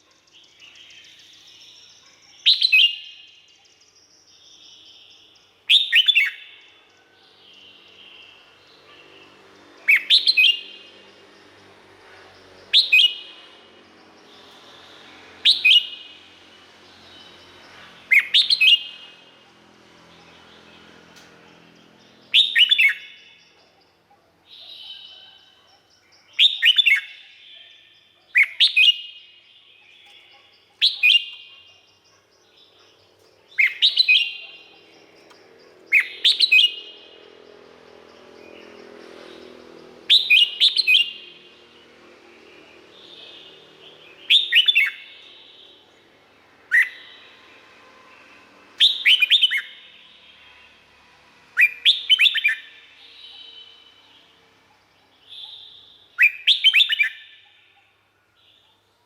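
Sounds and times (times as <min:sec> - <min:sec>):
bulbul singing bright phrases: 0:00.1 - 0:58.7.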